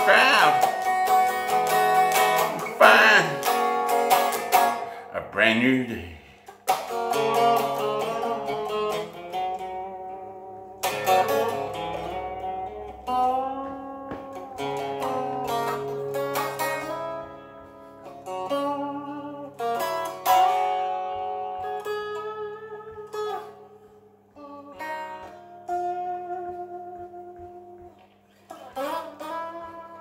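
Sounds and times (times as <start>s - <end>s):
electric guitar chords ringing: 0.0s - 30.0s.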